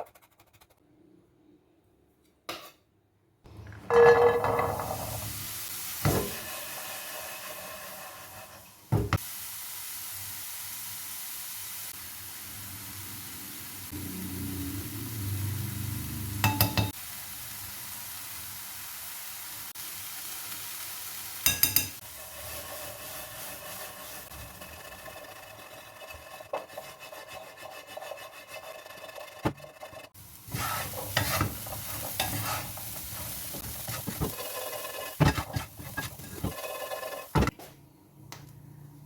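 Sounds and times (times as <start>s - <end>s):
chickpeas sizzling in a pan: 4.0s - 37.4s.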